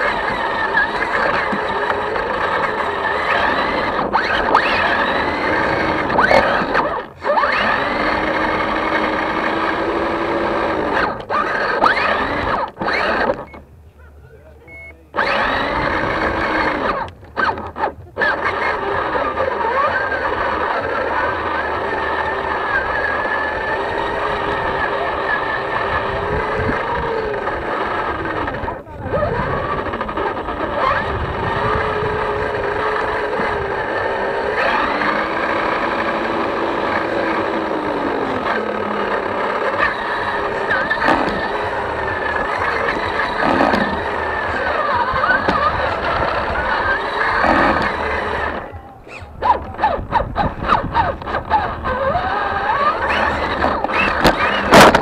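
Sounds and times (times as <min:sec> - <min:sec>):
toy car motor whining: 0:00.0 - 0:13.7, 0:14.6 - 0:55.0
tyres rumbling on tarmac: 0:00.0 - 0:55.0.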